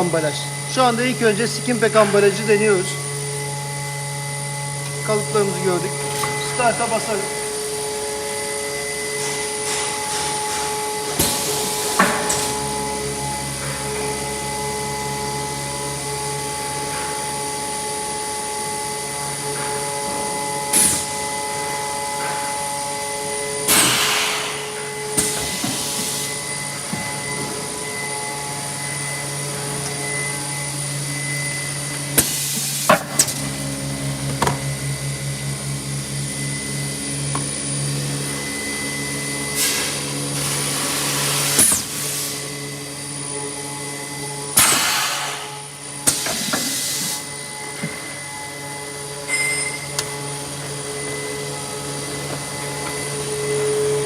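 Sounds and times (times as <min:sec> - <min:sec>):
vacuum pump hum: 0:00.0 - 0:54.0.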